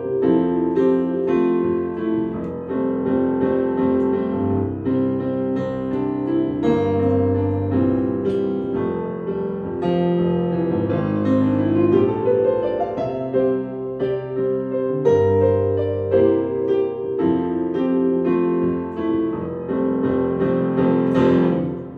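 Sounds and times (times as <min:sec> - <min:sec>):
digital piano playing chords: 0:00.0 - 0:21.9.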